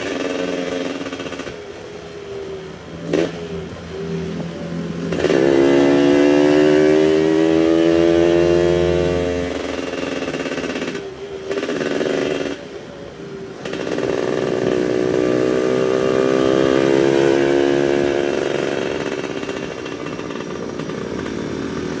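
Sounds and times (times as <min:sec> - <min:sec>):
two-stroke motorcycle engine revving: 0:00.0 - 0:12.9, 0:13.5 - 0:22.0.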